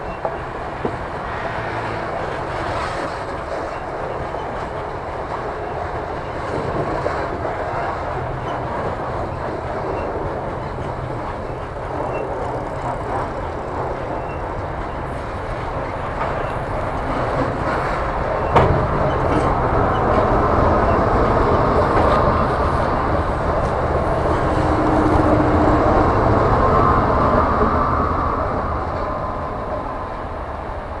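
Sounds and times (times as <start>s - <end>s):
train wagon clank: 0.0s - 26.4s
diesel locomotive steady tone: 0.0s - 31.0s
wheels rolling on rails: 0.0s - 31.0s.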